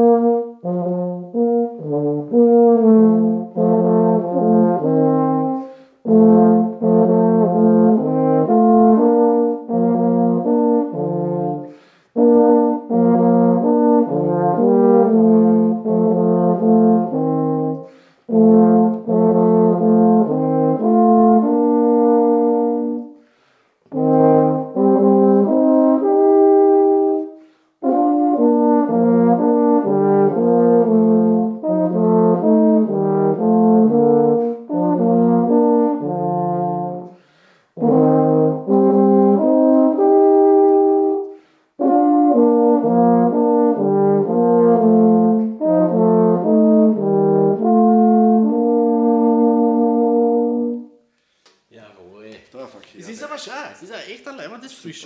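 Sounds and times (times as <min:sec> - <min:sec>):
tenor horns duet: 0:00.0 - 0:51.2.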